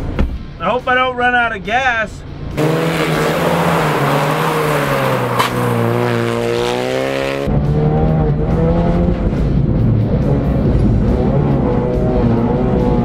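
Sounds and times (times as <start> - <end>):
rally car engine revving: 2.5 - 13.0.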